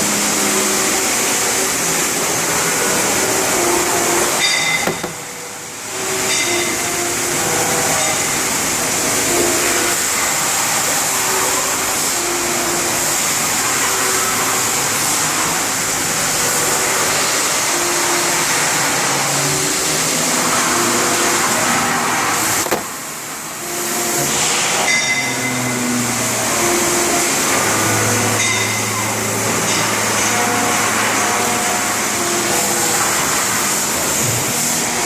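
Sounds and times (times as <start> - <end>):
machine whir with hiss: 0.0 - 35.0.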